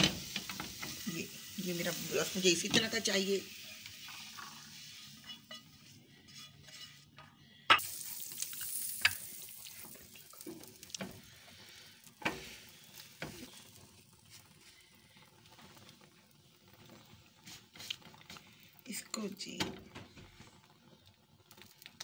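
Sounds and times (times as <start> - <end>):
bread sizzling on grill pan: 0.0 - 7.1, 7.7 - 19.5, 20.1 - 22.0.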